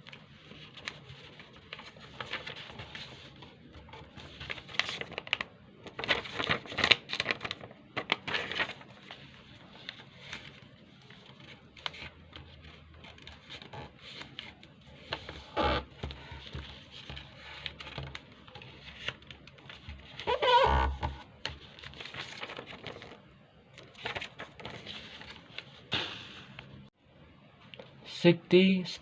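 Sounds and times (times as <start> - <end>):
paper rustling and creasing: 0.0 - 26.8.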